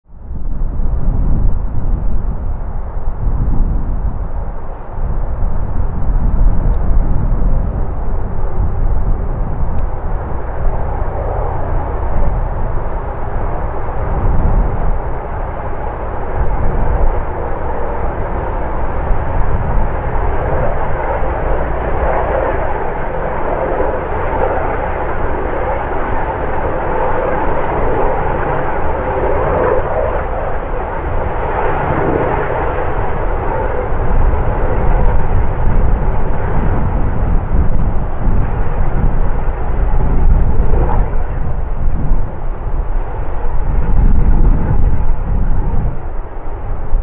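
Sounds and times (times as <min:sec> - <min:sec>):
helicopter flying past: 0:00.8 - 0:47.0.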